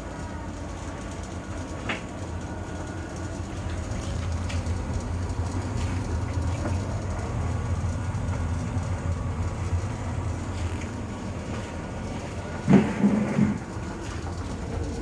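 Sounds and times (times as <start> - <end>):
tumble dryer rumbling: 0.0 - 15.0.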